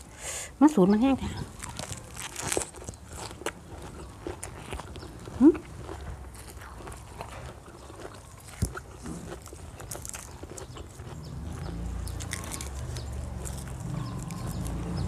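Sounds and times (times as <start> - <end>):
crunchy vegetables being chewed: 1.0 - 15.0.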